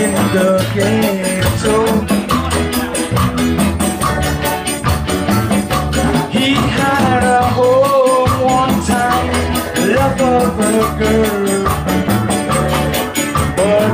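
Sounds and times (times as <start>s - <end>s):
person singing: 0.0s - 5.0s, 5.7s - 13.9s
band playing upbeat song: 0.0s - 13.9s.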